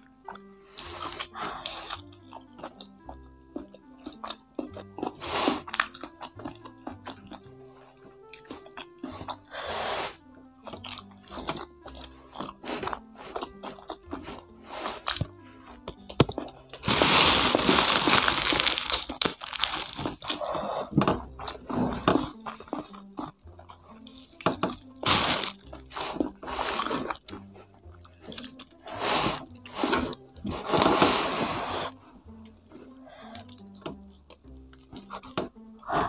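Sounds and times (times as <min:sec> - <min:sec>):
chewing crispy fried chicken: 0:00.0 - 0:31.3, 0:32.2 - 0:36.0.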